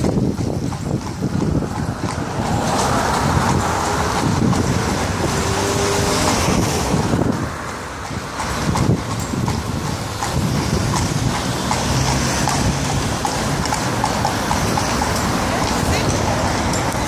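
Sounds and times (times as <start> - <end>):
traffic engine rumble: 0.0 - 17.0
van passing: 0.0 - 17.0
wind buffeting microphone: 0.0 - 17.0
tyres hissing on wet road: 1.6 - 17.0.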